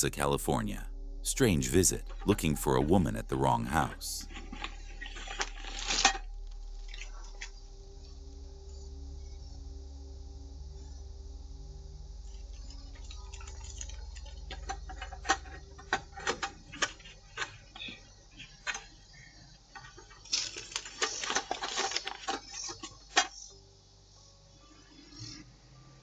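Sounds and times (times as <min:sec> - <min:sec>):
low hum: 0:00.0 - 0:22.3.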